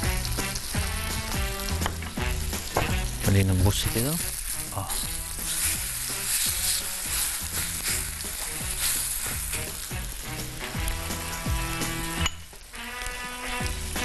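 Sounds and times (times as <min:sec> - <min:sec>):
oil sizzling on a griddle: 0:00.0 - 0:14.0.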